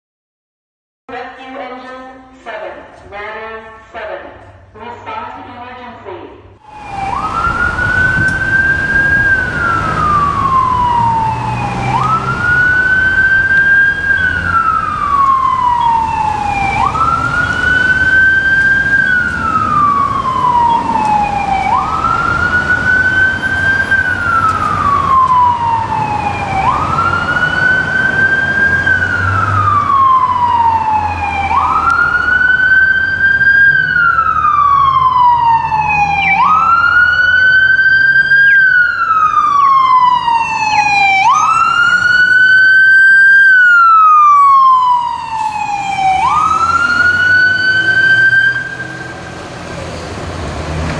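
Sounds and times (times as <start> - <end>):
fire engine siren wailing: 6.6 - 50.9
diesel engine rumble: 6.7 - 50.9.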